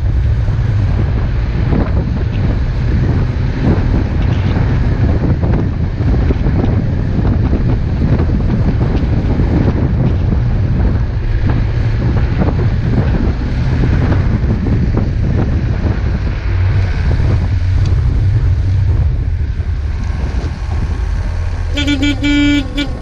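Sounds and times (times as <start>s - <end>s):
vehicle driving through deep snow: 0.0s - 23.0s
wind buffeting microphone: 0.0s - 23.0s.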